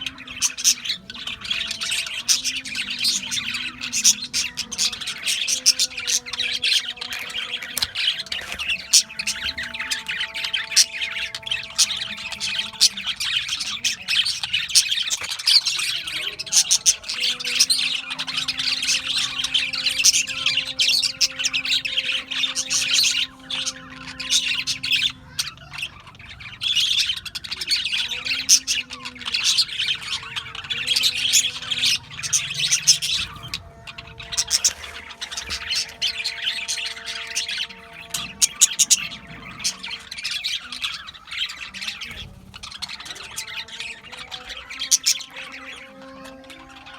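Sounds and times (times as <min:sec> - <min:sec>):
budgerigars chattering: 0:00.0 - 0:46.9.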